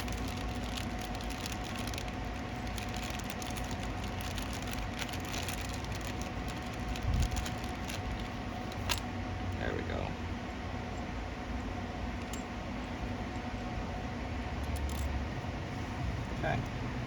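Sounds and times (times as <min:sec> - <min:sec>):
workshop background hum: 0:00.0 - 0:17.0.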